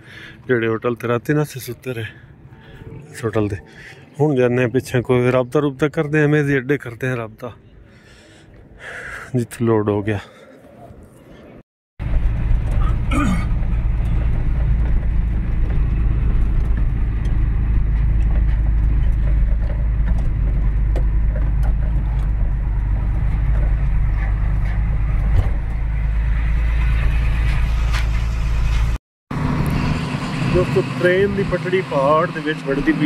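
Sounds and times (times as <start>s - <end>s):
truck engine rumble: 0.0s - 9.2s, 10.1s - 33.0s.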